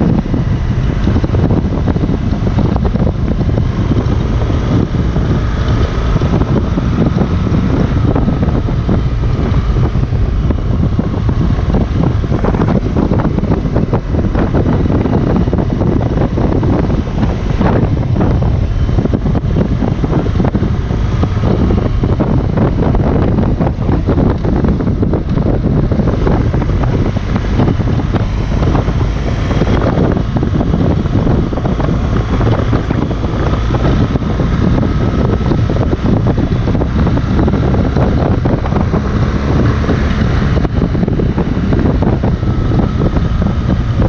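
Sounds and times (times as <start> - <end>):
motorcycle engine cruising: 0.0 - 44.0
wind rushing over microphone: 0.0 - 44.0.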